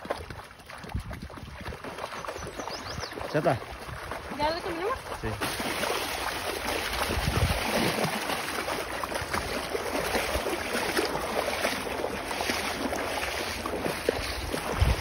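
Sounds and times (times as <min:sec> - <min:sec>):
dogs splashing through water: 0:00.0 - 0:15.0.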